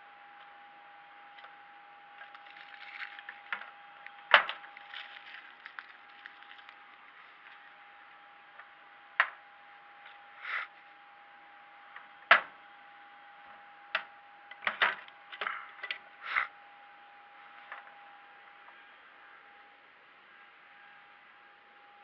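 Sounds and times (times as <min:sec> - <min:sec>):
steady high hum: 0:00.0 - 0:22.0.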